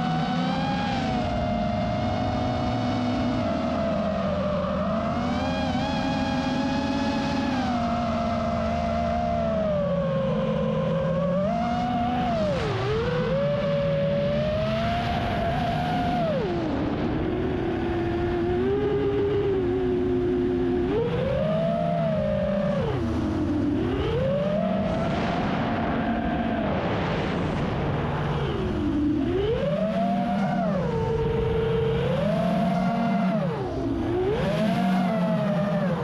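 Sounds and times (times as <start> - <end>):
engine revving: 0.0 - 36.0.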